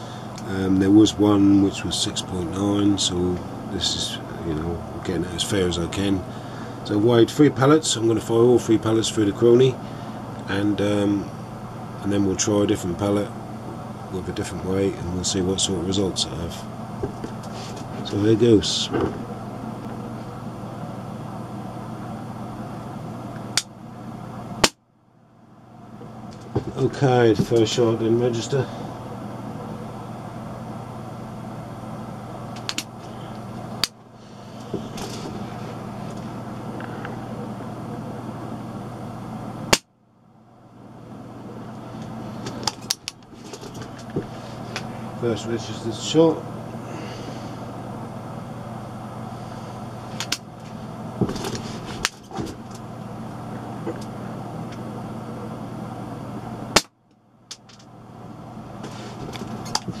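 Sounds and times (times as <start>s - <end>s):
low background hum: 0.0s - 60.0s.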